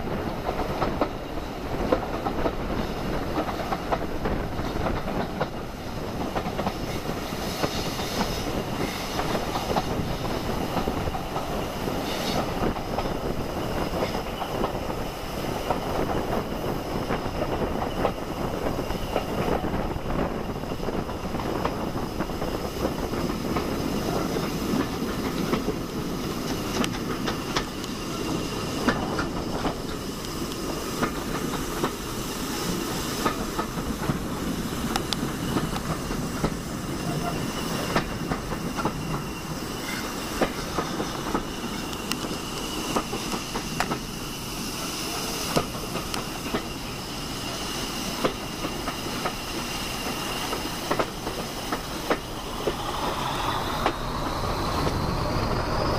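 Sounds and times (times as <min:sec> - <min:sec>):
diesel locomotive engine rumble: 0:00.0 - 0:55.9
steam hissing: 0:00.0 - 0:55.9
wheels clicking over rail joints: 0:00.1 - 0:15.0, 0:15.7 - 0:44.2, 0:44.8 - 0:47.0, 0:48.1 - 0:55.9.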